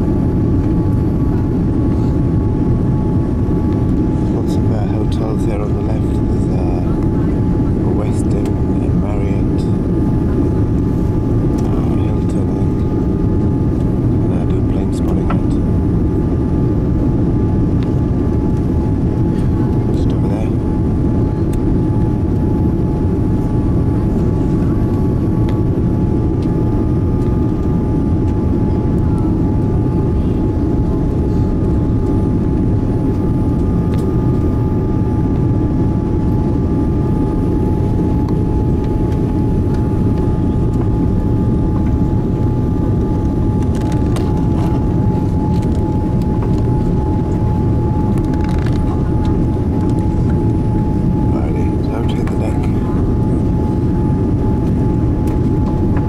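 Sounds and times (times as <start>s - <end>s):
airplane cabin engine rumble: 0.0s - 56.0s
high whine: 0.0s - 56.0s.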